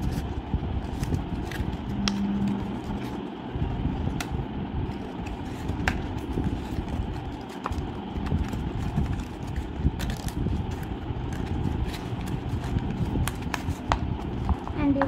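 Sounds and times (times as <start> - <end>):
low rumble: 0.0 - 15.0
paper rustling and crackling: 0.0 - 15.0.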